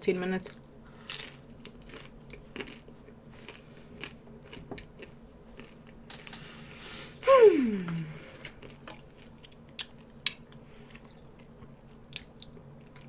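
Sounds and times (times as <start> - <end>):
person chewing food: 0.5 - 6.7, 8.2 - 13.0.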